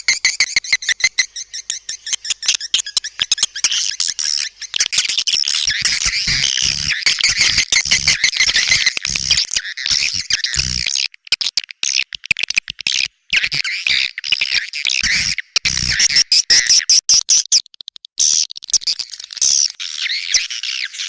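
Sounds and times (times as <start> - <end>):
birds twittering and chirping: 0.0 - 21.0.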